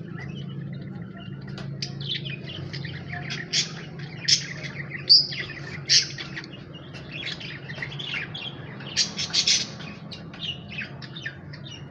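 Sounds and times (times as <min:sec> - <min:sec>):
lovebirds chirping: 0:00.0 - 0:11.9
low steady hum: 0:00.0 - 0:11.9.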